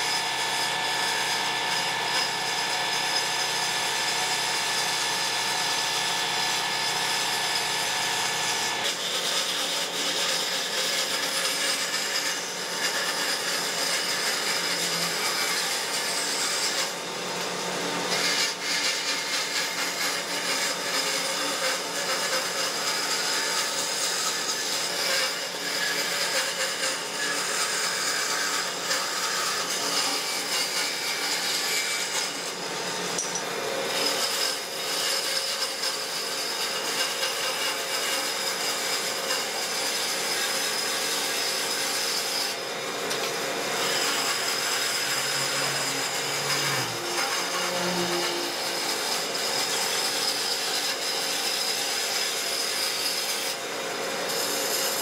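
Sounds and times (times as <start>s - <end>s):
band saw cutting wood: 0.0s - 55.0s
band saw motor hum: 0.0s - 55.0s.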